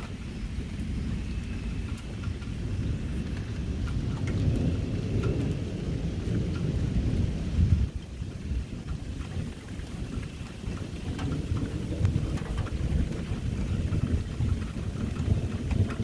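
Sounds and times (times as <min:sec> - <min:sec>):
raindrops ticking: 0:00.0 - 0:16.0
steady rain: 0:00.0 - 0:16.0
thunder rumbling: 0:00.0 - 0:16.0.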